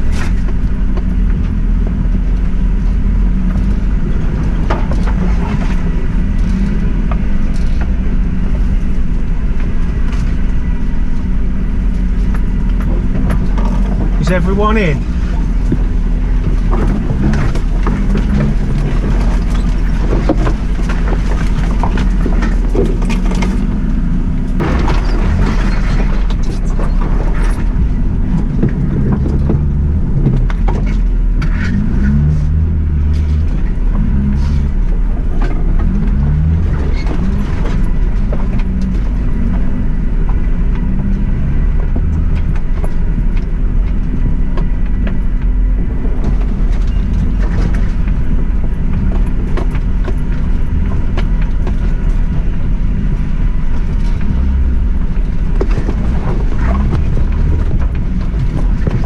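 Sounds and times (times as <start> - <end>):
car engine running: 0.0 - 59.0
car knocks and rattles: 0.0 - 59.0.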